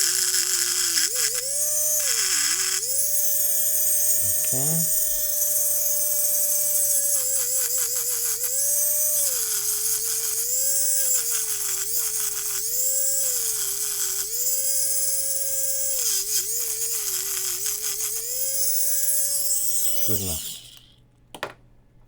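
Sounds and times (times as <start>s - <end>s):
electric grinder grinding metal: 0.0s - 20.9s.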